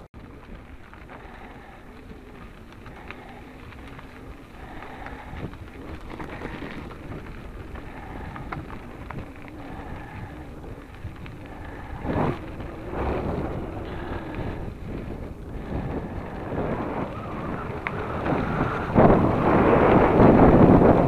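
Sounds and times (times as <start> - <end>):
bike rattling: 0.0 - 21.0
wind on microphone: 0.0 - 21.0
tyres crunching on gravel: 0.2 - 21.0.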